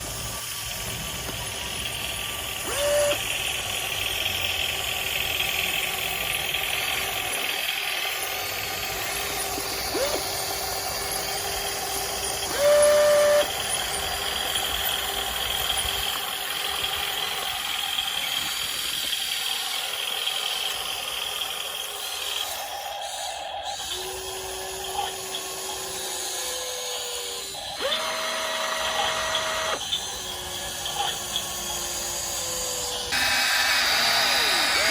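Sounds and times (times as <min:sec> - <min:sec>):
small motors whining: 0:00.0 - 0:34.9.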